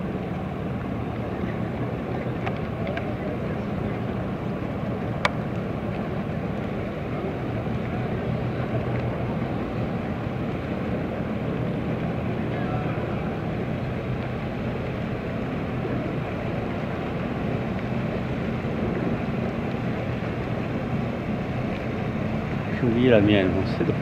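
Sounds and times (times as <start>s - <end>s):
motorboat engines droning: 0.0s - 24.0s.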